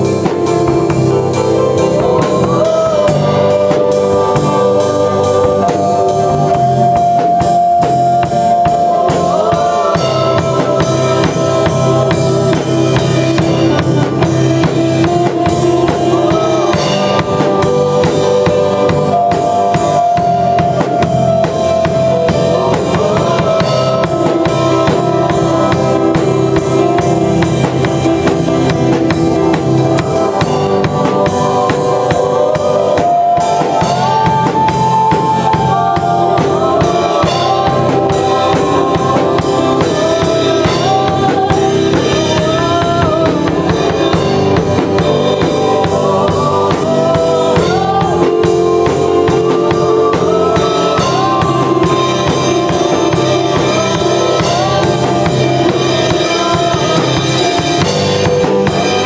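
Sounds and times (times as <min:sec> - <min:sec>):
drum kit steady beat: 0:00.0 - 0:59.0
voices singing: 0:00.0 - 0:59.0
worship band playing: 0:00.0 - 0:59.0.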